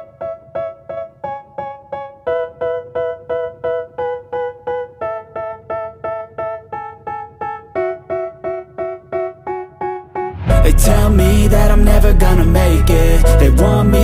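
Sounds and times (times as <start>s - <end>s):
electric piano repeated chords: 0.0s - 14.0s.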